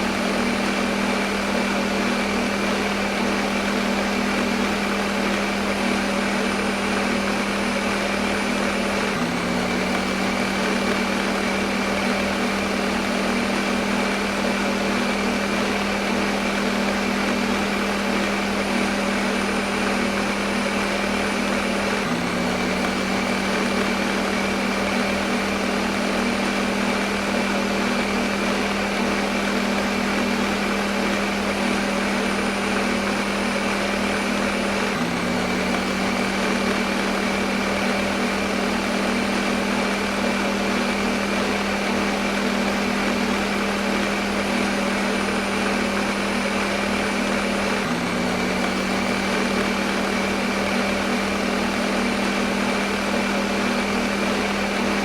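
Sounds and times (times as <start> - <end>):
kitchen blender running: 0.0 - 55.0.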